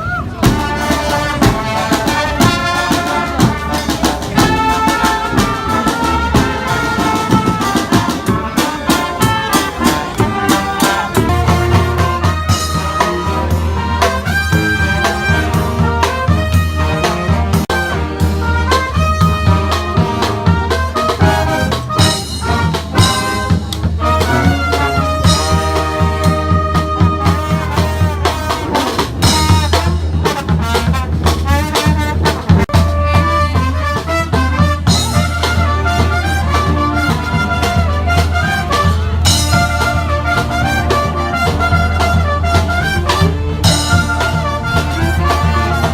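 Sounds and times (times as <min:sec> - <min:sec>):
brass band playing: 0:00.0 - 0:45.9
drum and bass beat: 0:00.0 - 0:45.9.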